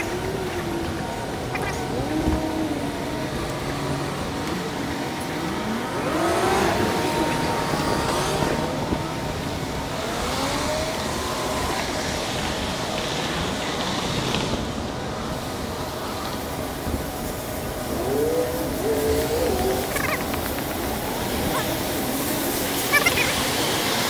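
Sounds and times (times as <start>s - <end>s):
wavering whines: 0.0s - 24.0s
wind and bicycle rolling noise: 0.0s - 24.0s.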